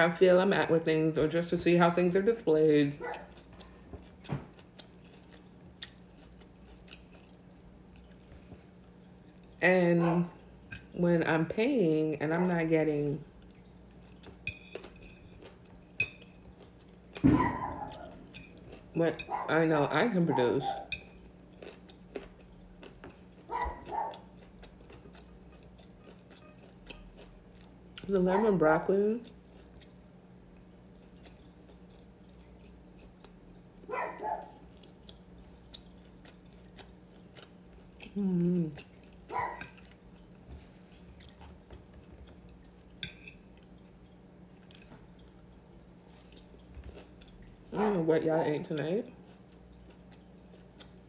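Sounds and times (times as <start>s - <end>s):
low steady hum: 0.0s - 51.0s
quiet chewing: 3.0s - 9.6s, 13.2s - 19.5s, 20.3s - 48.0s, 48.7s - 51.0s.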